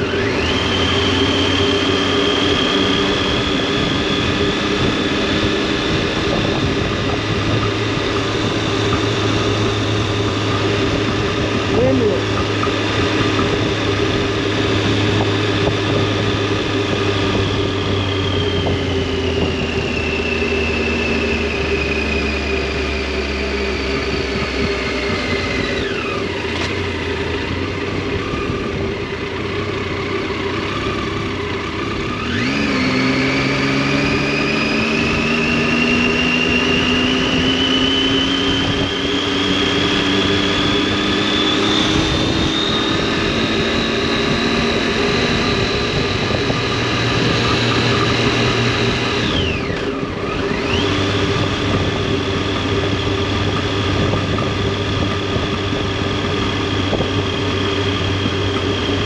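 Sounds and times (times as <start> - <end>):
motorcycle engine and exhaust: 0.0 - 59.0.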